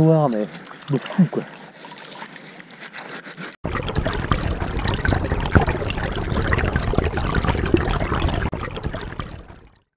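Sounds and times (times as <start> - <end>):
river water trickling and splashing: 0.0 - 9.9.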